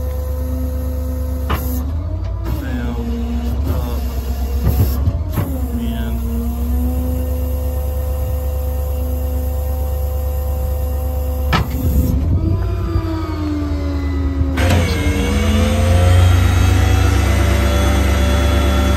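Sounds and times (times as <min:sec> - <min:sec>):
mechanical whine: 0:00.0 - 0:18.9
truck engine rumble: 0:00.0 - 0:18.9.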